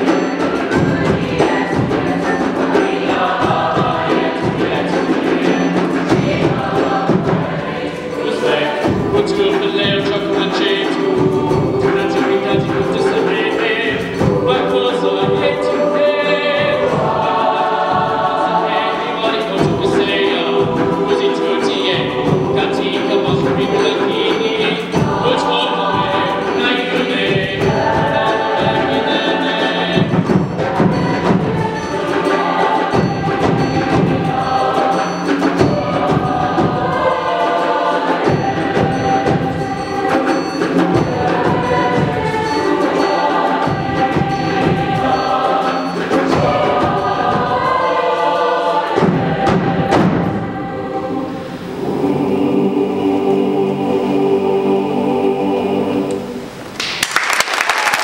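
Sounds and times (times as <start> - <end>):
hand drums beating: 0.0 - 47.9, 48.9 - 50.6
choir singing: 0.0 - 56.7.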